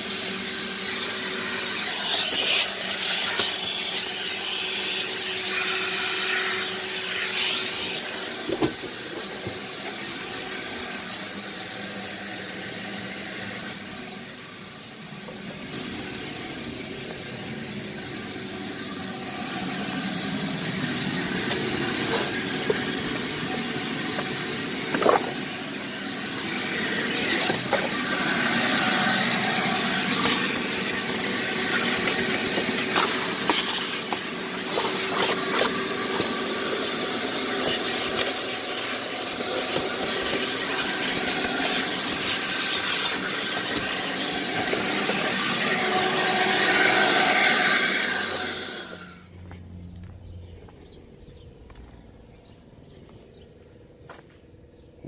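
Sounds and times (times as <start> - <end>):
blower running: 0.0 - 54.4.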